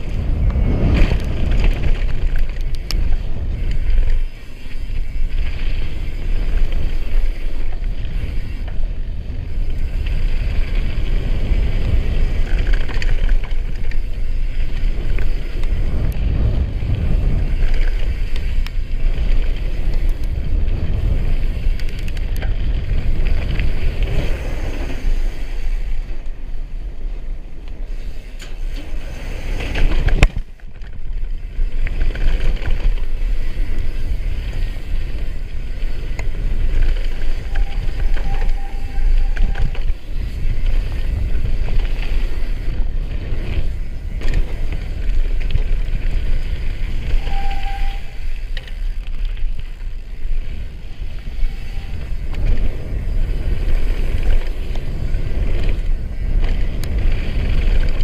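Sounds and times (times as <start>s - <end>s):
bike rattling: 0.0s - 58.0s
wind buffeting microphone: 0.0s - 58.0s.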